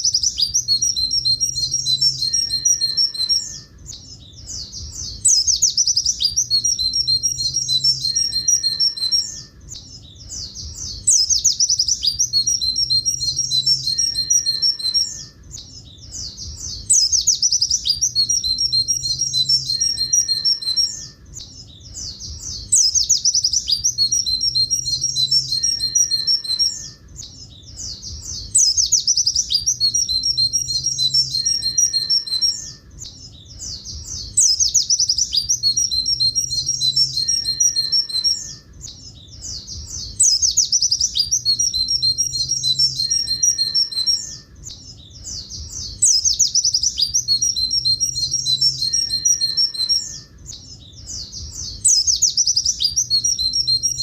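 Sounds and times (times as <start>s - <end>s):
bird song with rapid high notes: 0.0s - 54.0s.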